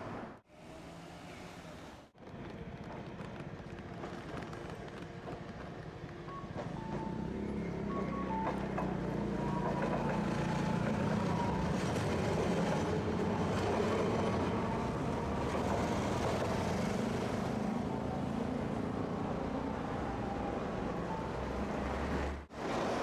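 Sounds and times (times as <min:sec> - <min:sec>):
streetcar wheels rumbling on rails: 0:00.0 - 0:23.0.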